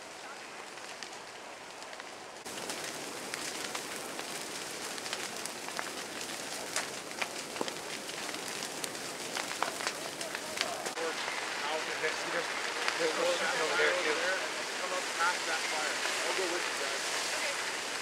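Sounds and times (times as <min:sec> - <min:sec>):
burning twigs crackling and popping: 0:00.0 - 0:18.0
fire hissing: 0:00.0 - 0:18.0.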